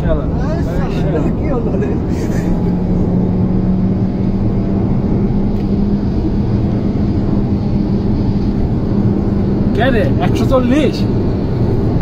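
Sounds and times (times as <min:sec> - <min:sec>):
car engine hum: 0:00.0 - 0:12.0
road and wind rumble: 0:00.0 - 0:12.0.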